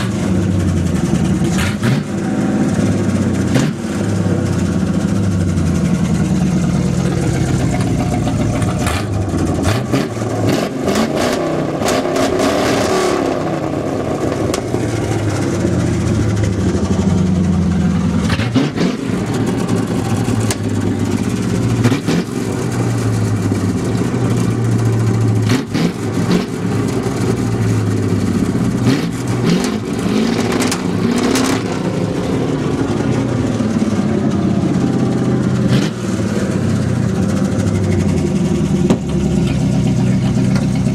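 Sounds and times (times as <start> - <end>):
engine exhaust revving: 0.0 - 40.9.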